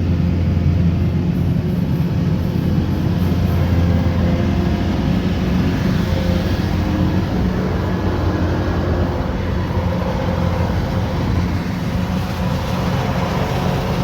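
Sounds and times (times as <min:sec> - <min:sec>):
combine harvester diesel engine: 0:00.0 - 0:14.0.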